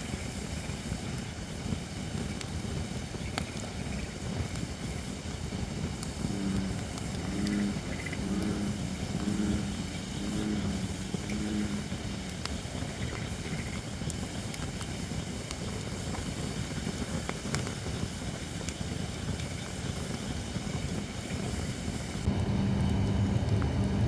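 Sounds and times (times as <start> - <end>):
campfire crackling and popping: 0.0 - 24.0
low fire rumble: 0.0 - 24.0.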